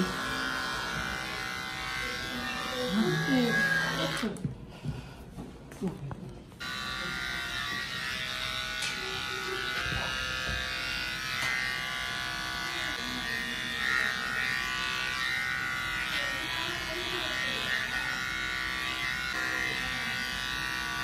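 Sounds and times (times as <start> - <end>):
electric clippers buzzing: 0.0 - 4.4, 6.6 - 21.0.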